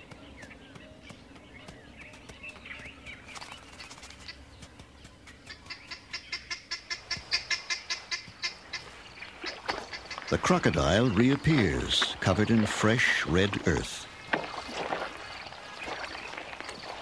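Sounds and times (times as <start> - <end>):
wild birds calling: 0.0 - 17.0.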